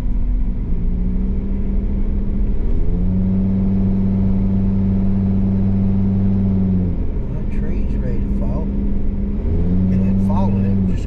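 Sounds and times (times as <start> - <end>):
car engine: 0.0 - 11.0
road rumble: 0.0 - 11.0.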